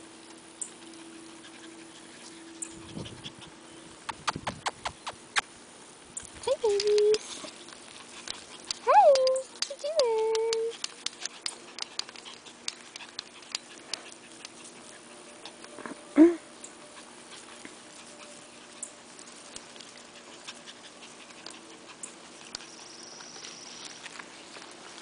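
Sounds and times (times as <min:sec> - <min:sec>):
clicks and rustling in grass: 0:00.1 - 0:25.0.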